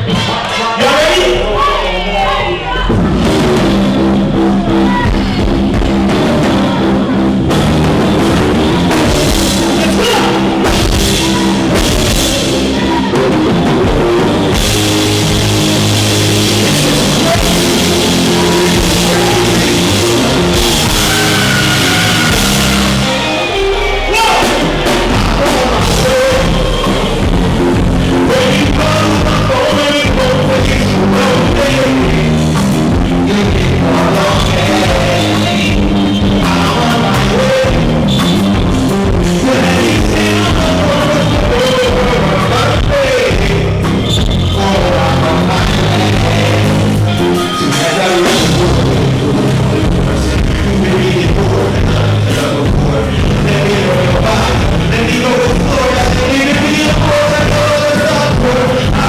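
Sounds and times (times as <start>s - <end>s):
bass: 0.0s - 59.0s
drum kit: 0.0s - 59.0s
live band playing loud song: 0.0s - 59.0s.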